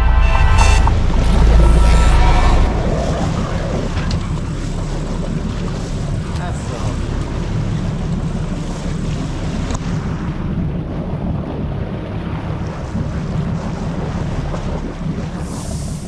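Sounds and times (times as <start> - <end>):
water rushing past boat hull: 0.0 - 16.0
wind buffeting microphone: 0.6 - 16.0.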